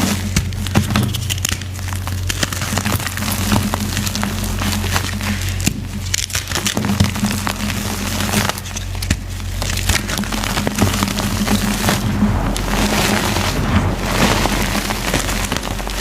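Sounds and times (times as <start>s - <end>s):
chalk crumbling and crackling: 0.0s - 16.0s
low steady hum: 0.0s - 16.0s.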